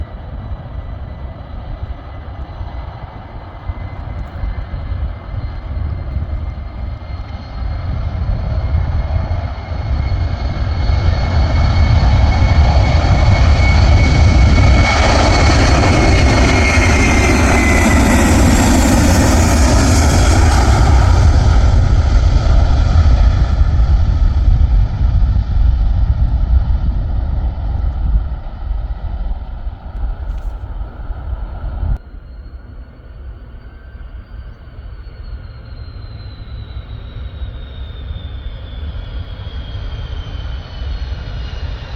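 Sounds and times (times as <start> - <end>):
steady low rumble: 0.0 - 35.7
airliner engines passing: 0.0 - 41.9
high engine whine: 0.0 - 41.9.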